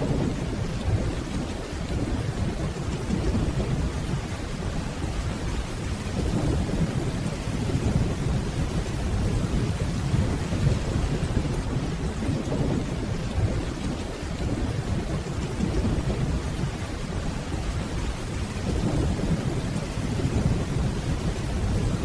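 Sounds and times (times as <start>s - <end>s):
distant rolling thunder: 0.0s - 22.0s
steady rainfall: 0.0s - 22.0s.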